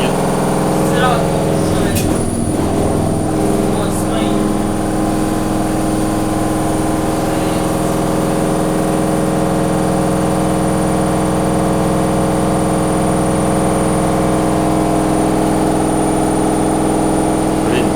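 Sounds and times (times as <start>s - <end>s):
washer-dryer motor hum: 0.0s - 17.9s.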